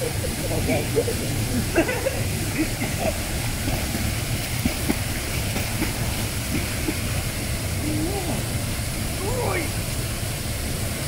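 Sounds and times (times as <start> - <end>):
heavy low rumble: 0.0 - 11.0
waterfall rushing into pool: 0.0 - 11.0.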